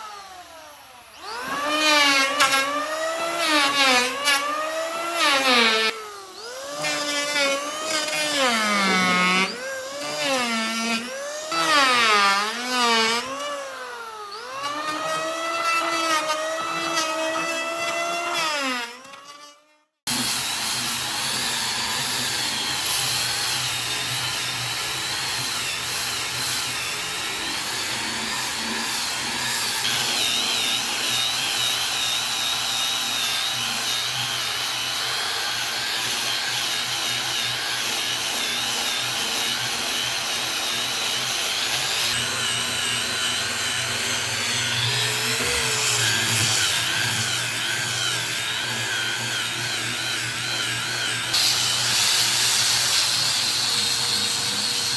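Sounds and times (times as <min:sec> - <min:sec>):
power tool whining on wood: 0:00.0 - 0:54.9.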